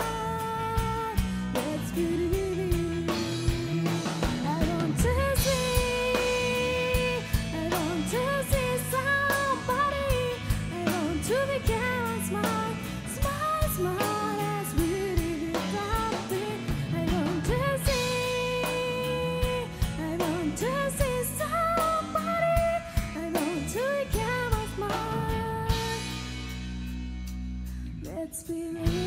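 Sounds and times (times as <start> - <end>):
woman singing lead: 0.0 - 26.5, 27.9 - 29.0
rock band playing: 0.0 - 29.0.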